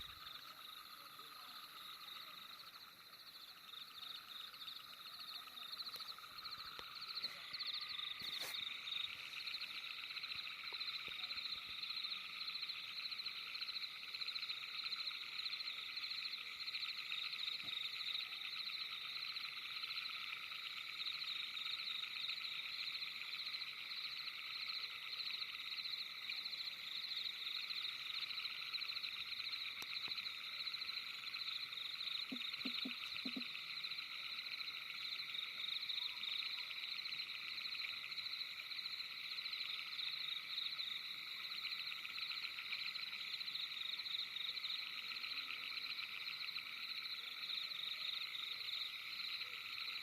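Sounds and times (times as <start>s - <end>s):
frogs trilling: 0.0s - 50.0s.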